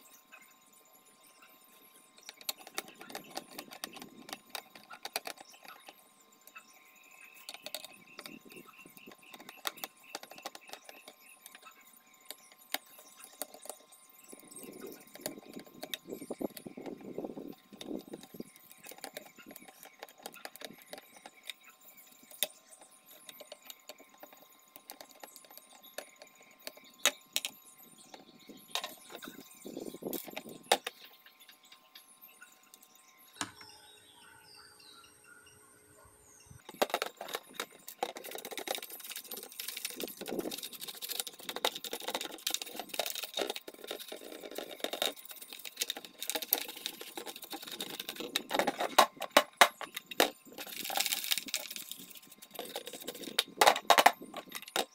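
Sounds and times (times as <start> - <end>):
rubbing and scraping on plastic: 2.2 - 6.6, 7.4 - 31.4, 36.7 - 54.9.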